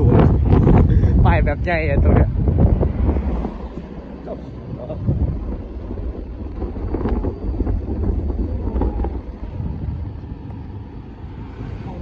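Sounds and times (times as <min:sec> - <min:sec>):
motorcycle rumble: 0:00.0 - 0:12.0
wind buffeting microphone: 0:00.0 - 0:12.0.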